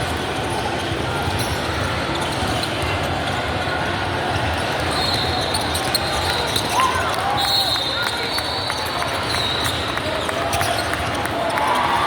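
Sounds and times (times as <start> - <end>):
background hubbub: 0.0 - 12.0.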